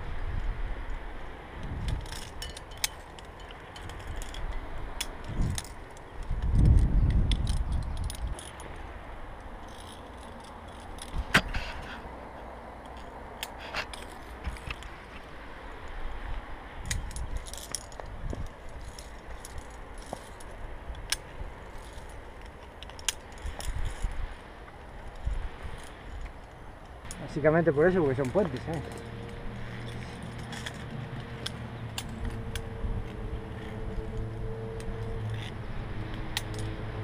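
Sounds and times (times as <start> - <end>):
metal carabiners clinking: 1.8 - 15.9, 16.8 - 36.8.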